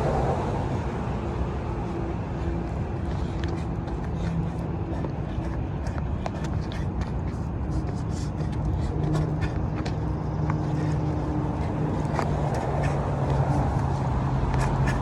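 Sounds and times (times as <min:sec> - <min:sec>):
vehicle engine running: 0:00.8 - 0:15.0.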